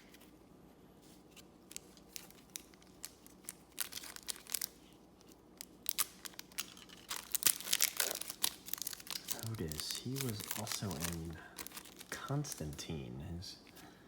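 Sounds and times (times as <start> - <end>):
foil wrapper crinkling: 1.6 - 13.0.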